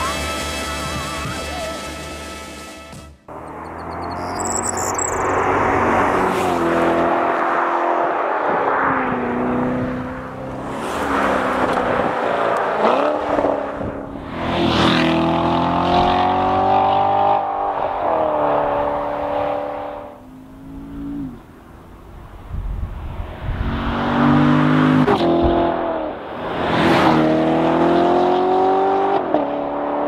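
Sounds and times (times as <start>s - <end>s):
car engine accelerating hard: 3.3s - 21.7s, 23.0s - 30.0s.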